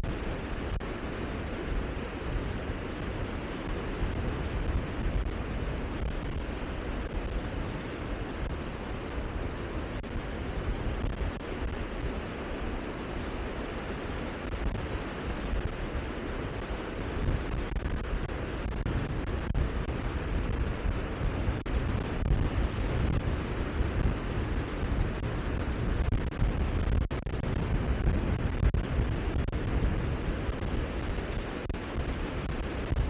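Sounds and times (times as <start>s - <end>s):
rushing wind with low rumble: 0.0s - 33.0s.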